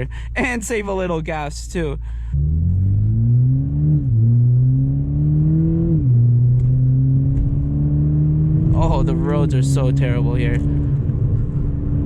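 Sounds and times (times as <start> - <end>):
car engine accelerating: 2.0 - 12.0.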